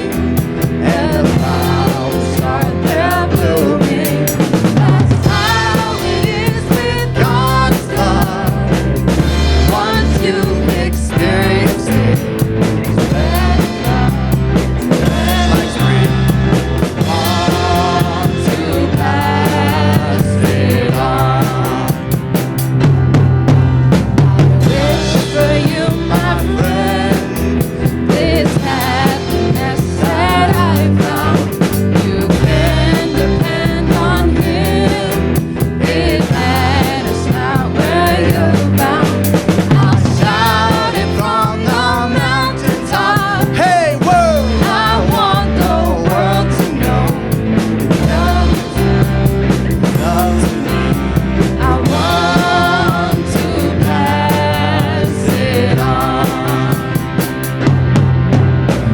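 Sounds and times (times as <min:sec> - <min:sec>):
drum kit and bass: 0:00.0 - 0:58.9.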